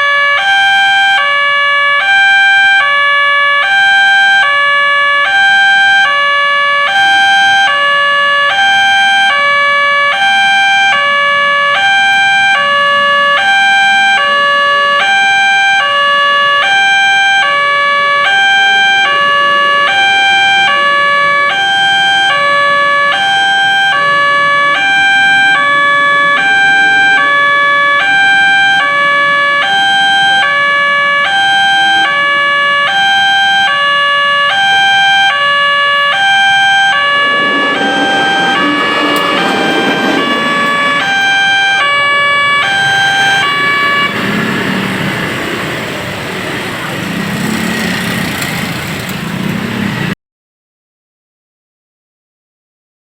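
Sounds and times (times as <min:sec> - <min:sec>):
two-tone level crossing siren: 0:00.0 - 0:48.3.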